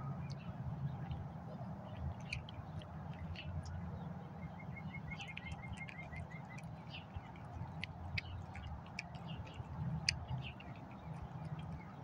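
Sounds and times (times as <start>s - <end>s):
cat chewing and licking food: 0.2s - 12.0s.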